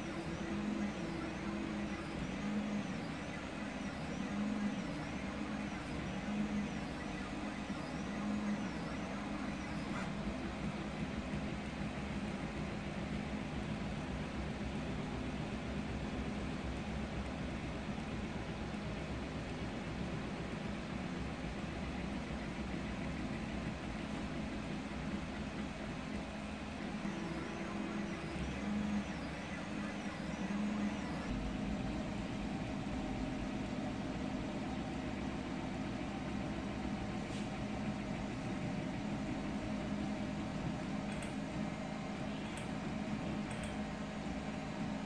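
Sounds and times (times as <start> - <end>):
fan hum: 0.0 - 45.0
high whine: 0.0 - 45.0.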